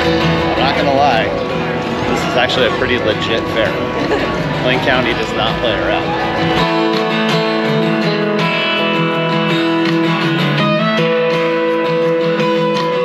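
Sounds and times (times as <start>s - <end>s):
strummed guitar music: 0.0s - 13.0s.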